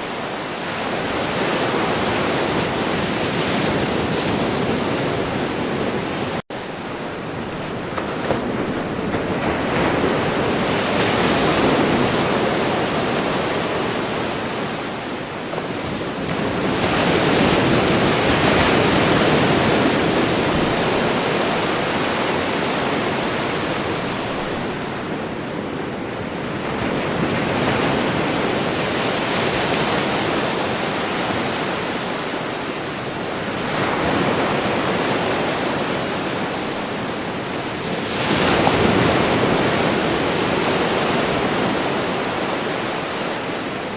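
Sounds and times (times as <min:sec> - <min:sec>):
sea waves breaking on beach: 0:00.0 - 0:43.9.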